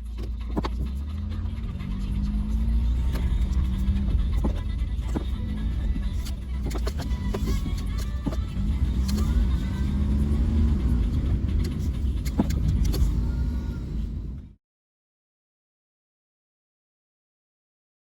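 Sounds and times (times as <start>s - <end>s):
van engine and road rumble: 0.0s - 14.6s.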